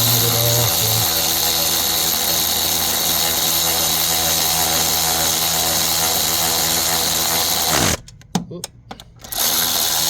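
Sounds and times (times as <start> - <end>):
power tool running: 0.0 - 8.0, 9.3 - 10.0.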